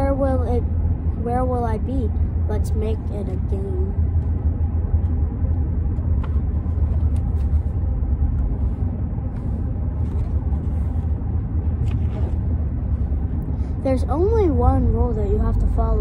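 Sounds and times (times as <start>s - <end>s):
car rumble inside cabin: 0.0s - 16.0s.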